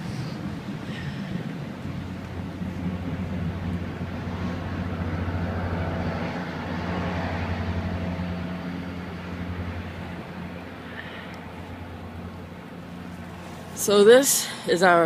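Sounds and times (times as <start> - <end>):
truck engine drone: 0.0 - 15.0
tyre and road noise: 0.0 - 15.0.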